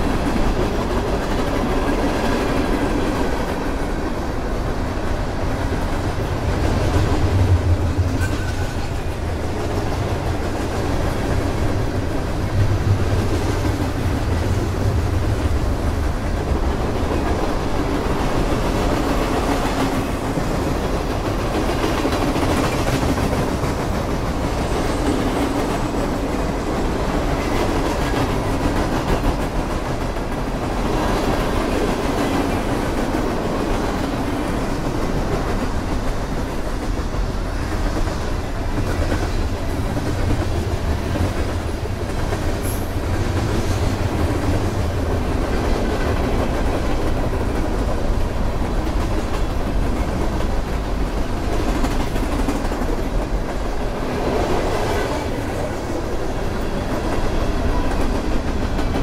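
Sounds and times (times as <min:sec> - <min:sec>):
freight train wheels rumbling on rail: 0:00.0 - 0:59.0.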